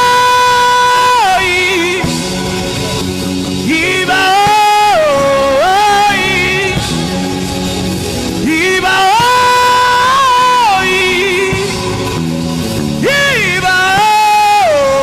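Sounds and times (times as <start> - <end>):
instrumental backing: 0.0 - 15.0
person singing: 0.0 - 15.0.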